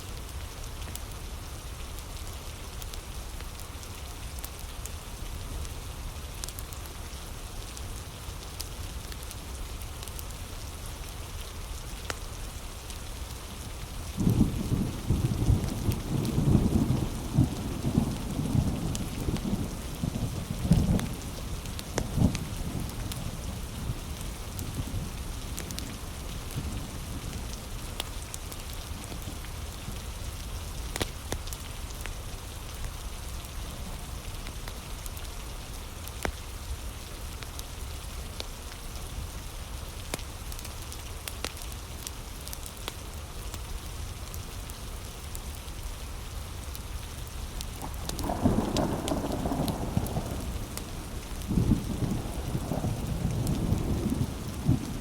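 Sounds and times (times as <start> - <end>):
heavy rain: 0.0 - 55.0
wood fire crackling: 0.1 - 19.9, 20.8 - 55.0.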